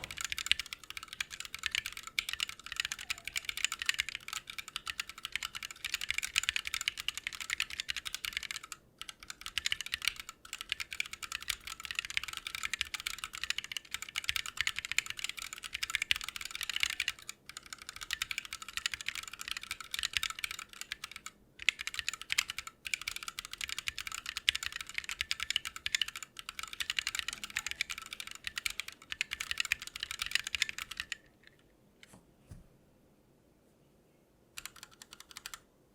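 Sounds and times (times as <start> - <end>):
fast mechanical keyboard typing: 0.0 - 31.3, 34.6 - 35.7.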